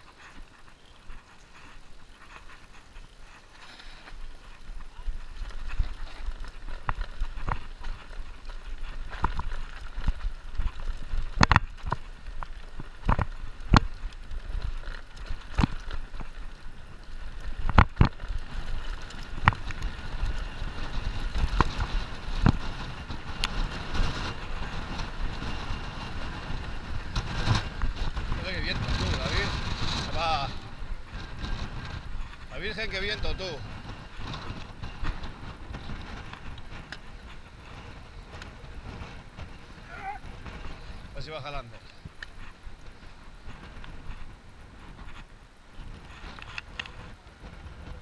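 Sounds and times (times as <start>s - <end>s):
bike knocking and rattling: 0.0s - 48.0s
bike tyres rumbling on dirt: 0.0s - 48.0s.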